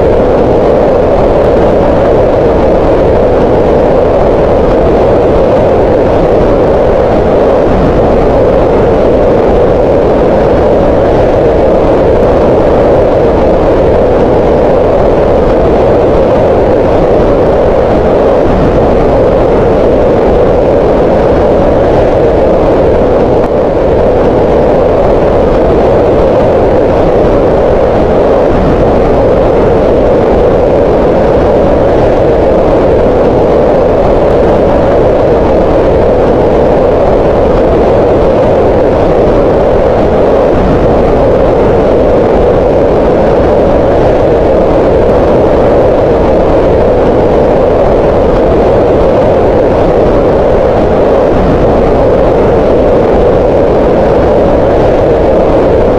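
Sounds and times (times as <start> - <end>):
green noise: 0.0 - 55.9.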